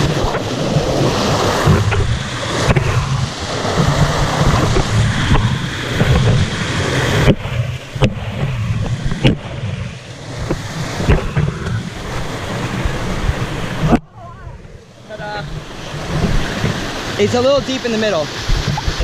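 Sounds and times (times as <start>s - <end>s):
waterfall rushing: 0.0s - 19.0s
wind rumble on microphone: 0.0s - 19.0s.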